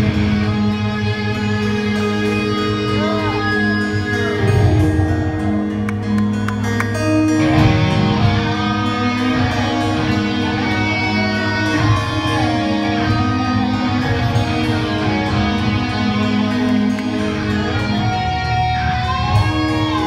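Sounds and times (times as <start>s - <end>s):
metal band playing live: 0.0s - 20.0s.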